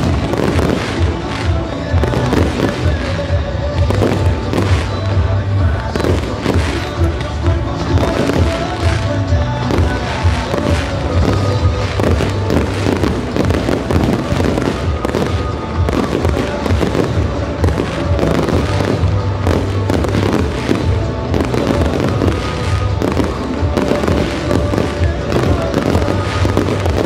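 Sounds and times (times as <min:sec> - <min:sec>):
fireworks bursts and crackle: 0:00.0 - 0:27.0
music with low bass: 0:00.0 - 0:27.0.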